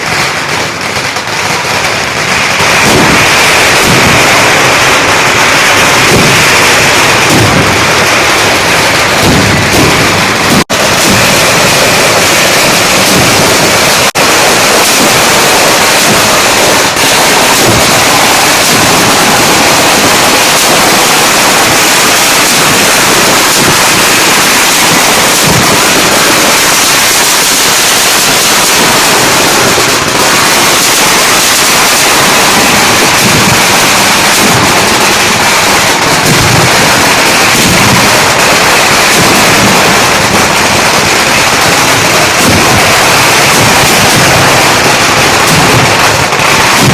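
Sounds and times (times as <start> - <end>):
firecrackers barrage: 0.0 - 46.9.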